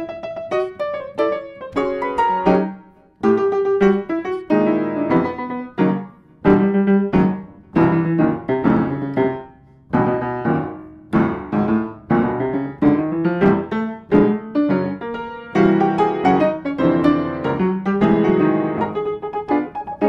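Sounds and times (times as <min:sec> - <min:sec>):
solo piano chords ringing: 0:00.0 - 0:20.0.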